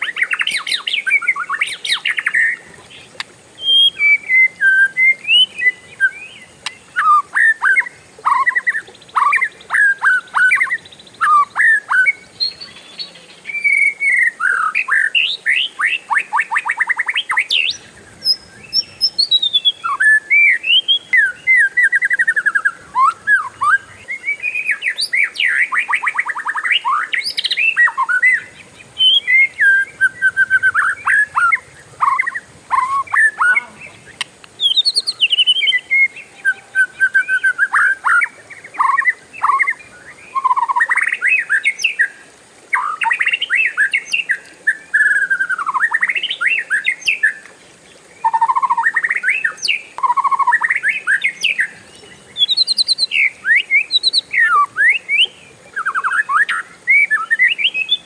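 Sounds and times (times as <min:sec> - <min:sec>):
bird singing whistled song: 0:00.0 - 0:47.5, 0:48.2 - 0:58.0.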